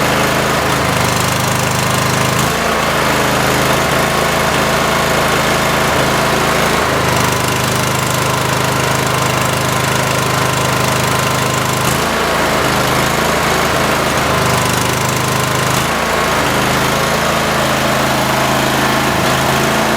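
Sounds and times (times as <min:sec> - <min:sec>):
lawn tractor engine running: 0:00.0 - 0:19.9.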